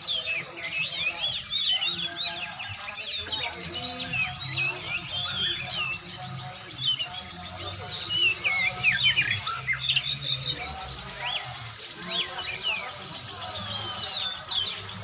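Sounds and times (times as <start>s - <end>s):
bird singing chirps and whistles: 0.0s - 15.0s.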